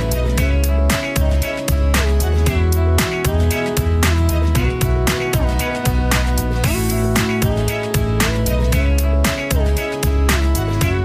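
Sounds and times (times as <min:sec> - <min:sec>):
music with sliding melody: 0:00.0 - 0:11.0.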